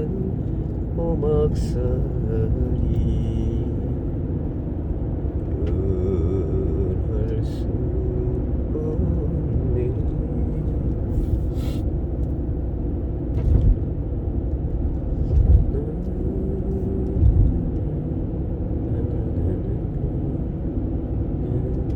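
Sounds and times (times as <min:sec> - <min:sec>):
car road rumble from cabin: 0:00.0 - 0:21.9.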